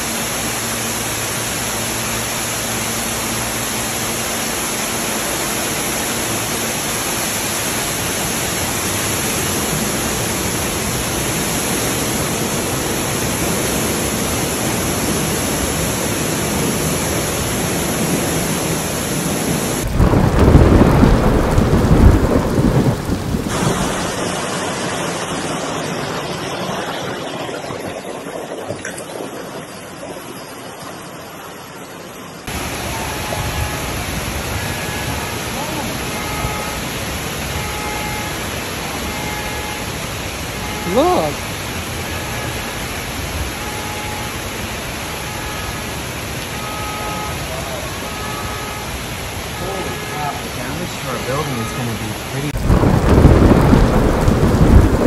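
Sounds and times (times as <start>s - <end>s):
floodwater pouring down: 0.0s - 55.0s.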